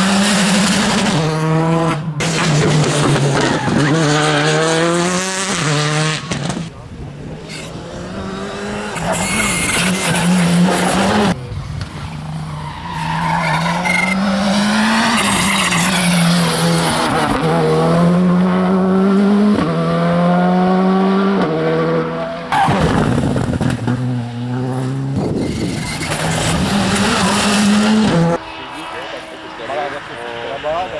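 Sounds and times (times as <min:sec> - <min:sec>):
rally car engines accelerating: 0:00.0 - 0:30.9.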